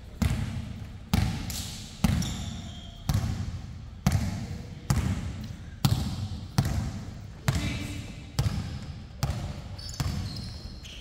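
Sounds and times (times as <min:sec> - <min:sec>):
basketball bouncing with echo: 0:00.0 - 0:11.0.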